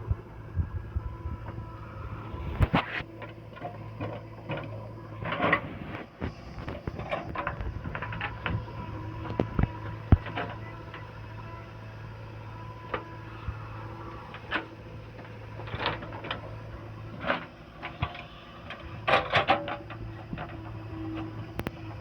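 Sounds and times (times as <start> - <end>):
diesel machinery humming: 0.0 - 22.0.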